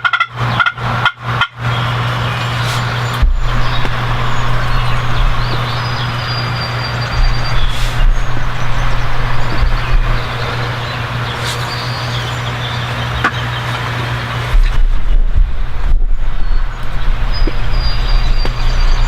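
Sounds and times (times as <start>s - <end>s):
vehicle engine hum: 0.4s - 19.0s
road hiss: 1.6s - 19.0s.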